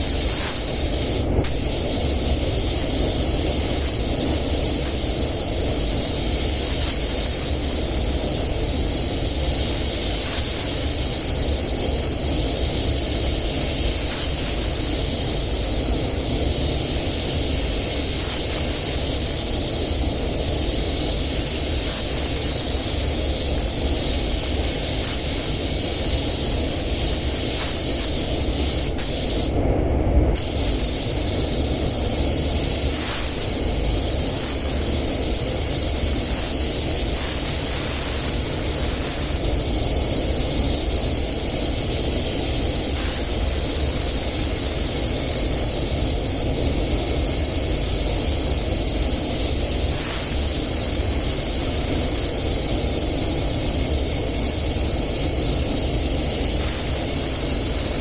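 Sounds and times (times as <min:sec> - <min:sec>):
paint spray gun hissing: 0:00.0 - 0:29.6, 0:30.4 - 0:58.0.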